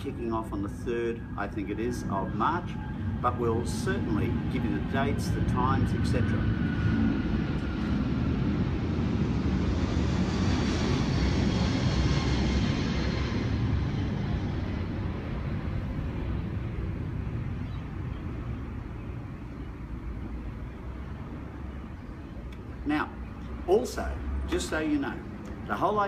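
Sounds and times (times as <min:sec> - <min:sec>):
engine rushing past: 0:00.0 - 0:26.0.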